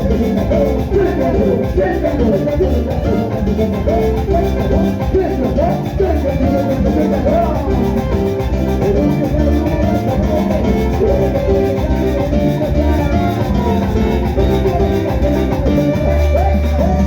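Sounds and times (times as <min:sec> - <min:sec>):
melodic line bending in pitch: 0:00.0 - 0:17.0
salsa dance music: 0:00.0 - 0:17.0
steady drum beat: 0:00.0 - 0:17.0.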